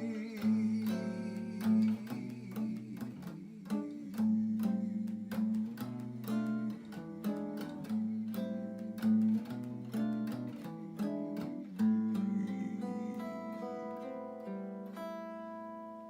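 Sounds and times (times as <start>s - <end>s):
plucked acoustic guitar chords: 0.0s - 16.0s.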